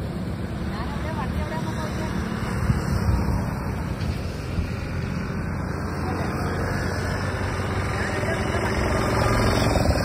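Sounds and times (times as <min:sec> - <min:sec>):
car engine low hum: 0:00.0 - 0:10.0.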